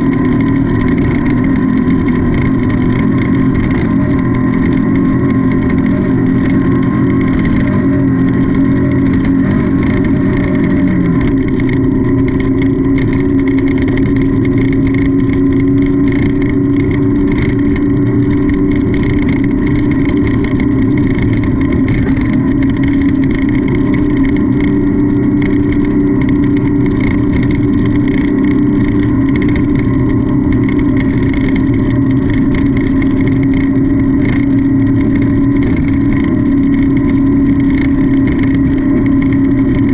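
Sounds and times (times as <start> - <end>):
noisy rush: 0.0 - 39.9
race car engine at high revs: 0.0 - 39.9.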